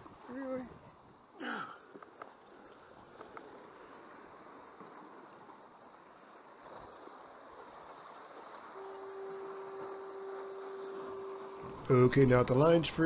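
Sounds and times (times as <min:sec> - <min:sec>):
ocean surf: 0:00.0 - 0:13.0
wind: 0:00.0 - 0:13.0.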